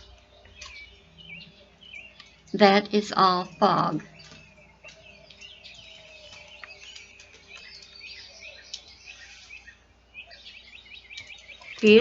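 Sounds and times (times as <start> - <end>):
songbirds singing and chirping: 0.0 - 12.0.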